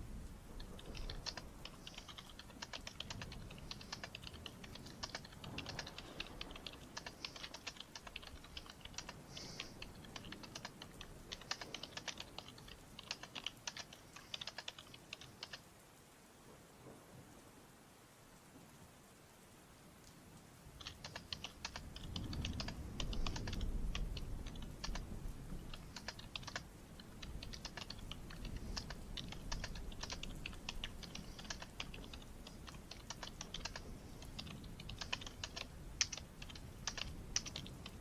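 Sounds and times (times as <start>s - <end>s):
typing on computer keyboard: 0.5s - 15.7s, 20.8s - 38.0s.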